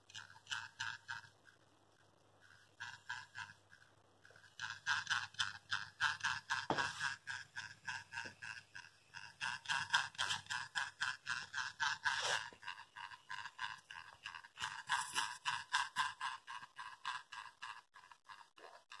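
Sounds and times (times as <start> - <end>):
small toy motor whirring: 0.0 - 19.0.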